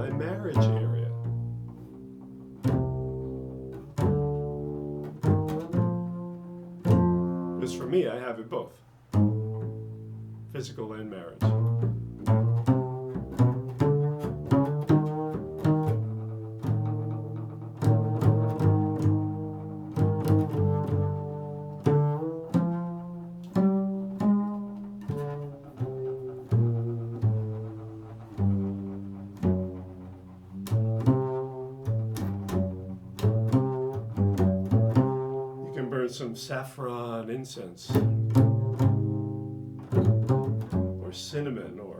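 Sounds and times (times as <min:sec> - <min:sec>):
plucked string notes: 0:00.0 - 0:08.5, 0:09.1 - 0:37.2, 0:37.9 - 0:41.9.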